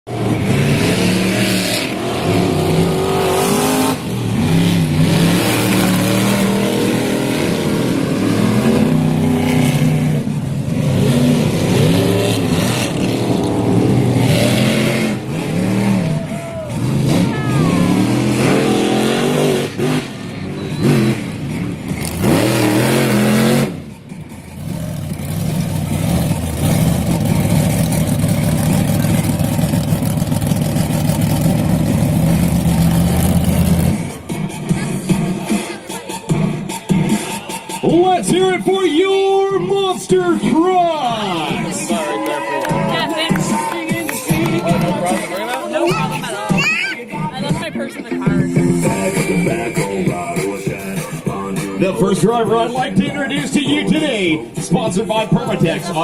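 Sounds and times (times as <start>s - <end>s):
monster truck engines revving: 0.0s - 56.0s.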